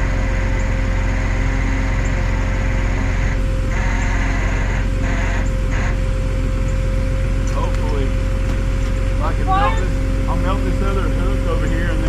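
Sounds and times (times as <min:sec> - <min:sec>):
high whine: 0:00.0 - 0:12.0
truck engine rumbling: 0:00.0 - 0:12.0.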